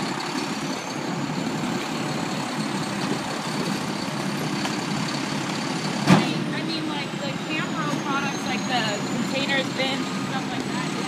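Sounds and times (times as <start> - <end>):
garbage truck engine rumble: 0.0 - 11.0
street sweeper engine: 0.0 - 11.0.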